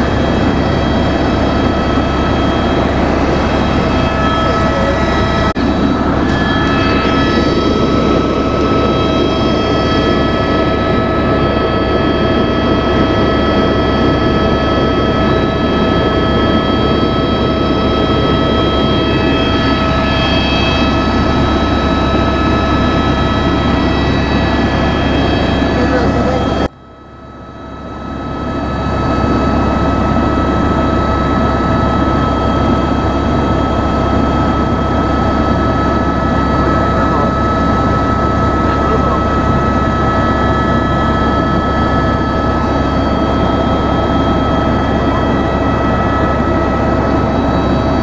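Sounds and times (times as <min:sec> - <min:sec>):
helicopter rotor and engine rush: 0:00.0 - 0:48.0
high turbine whine: 0:00.0 - 0:48.0.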